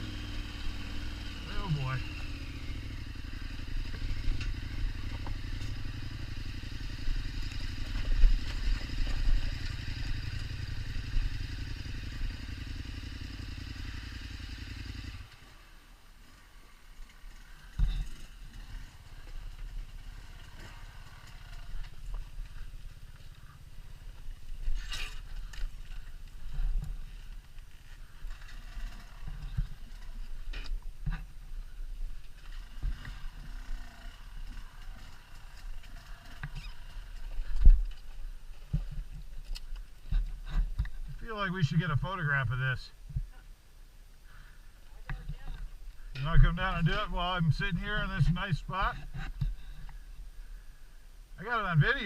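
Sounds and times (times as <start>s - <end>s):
motorcycle engine surging: 0.0s - 42.9s, 44.3s - 50.0s.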